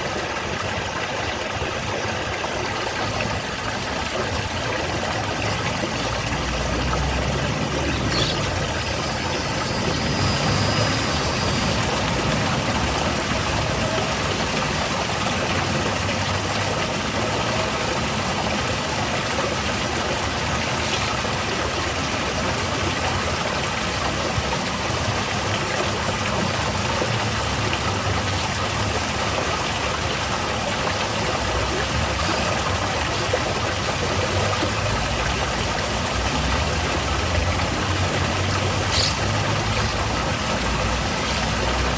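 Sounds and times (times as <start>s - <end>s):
waterfall splashing: 0.0s - 41.9s.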